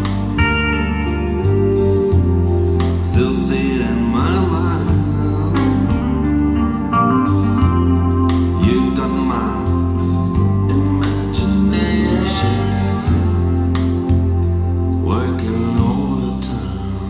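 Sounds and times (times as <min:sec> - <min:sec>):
guitar music over loudspeakers: 0:00.0 - 0:17.0
wavering slide guitar melody: 0:00.0 - 0:17.0.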